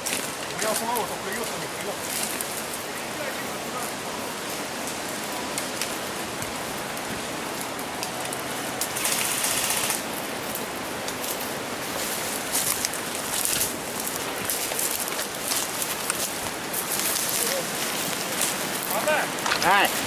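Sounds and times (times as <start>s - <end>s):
rustling through undergrowth: 0.0s - 20.0s
steady hiss: 0.0s - 20.0s.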